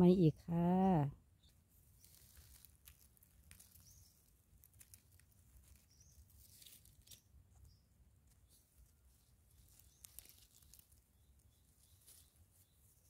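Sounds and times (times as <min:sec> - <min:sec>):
dry leaves and soil crackling: 0:00.3 - 0:13.0.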